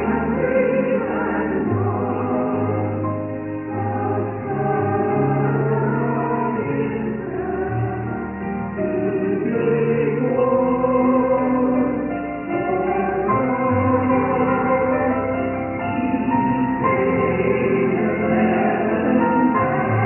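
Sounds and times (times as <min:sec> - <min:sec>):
choir singing long notes: 0:00.0 - 0:20.0.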